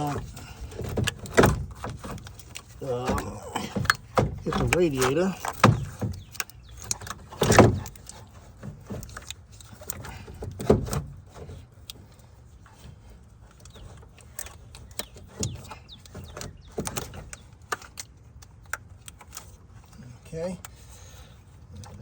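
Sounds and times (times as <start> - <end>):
metal clunks and scrapes: 0.0 - 22.0.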